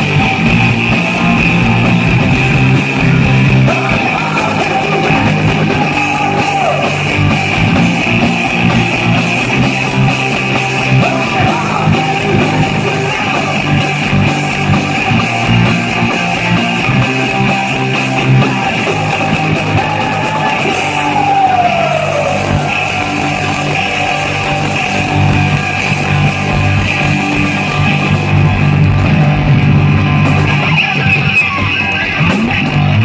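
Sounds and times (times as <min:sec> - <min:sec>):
electric guitar: 0:00.0 - 0:33.0
rock band playing live: 0:00.0 - 0:33.0.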